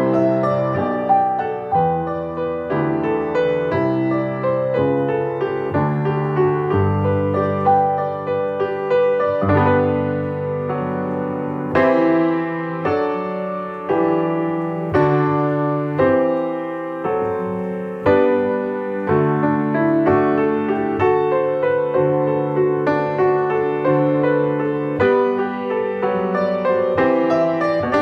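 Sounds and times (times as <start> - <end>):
piano chords ringing: 0.0 - 28.0.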